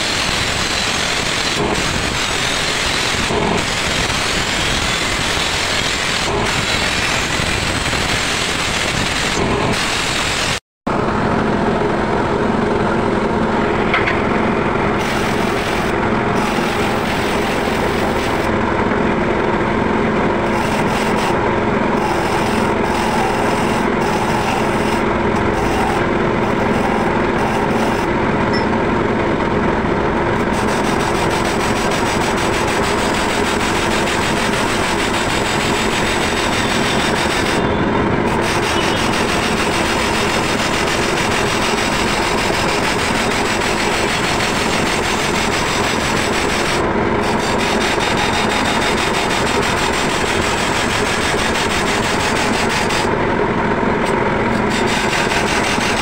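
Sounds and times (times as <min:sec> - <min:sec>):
blade grinding rasp: 0:00.0 - 0:10.5, 0:15.0 - 0:18.5, 0:20.4 - 0:21.4, 0:22.0 - 0:28.1, 0:30.4 - 0:37.7, 0:38.3 - 0:53.1, 0:54.0 - 0:56.0
grinding wheel humming: 0:00.0 - 0:56.0.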